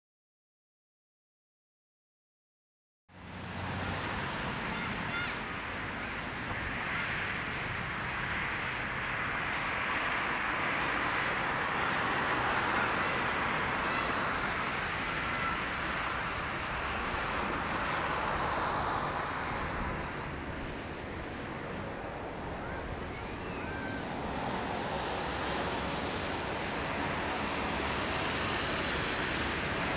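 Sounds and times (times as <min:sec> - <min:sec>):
jet engines at takeoff: 0:03.2 - 0:29.9.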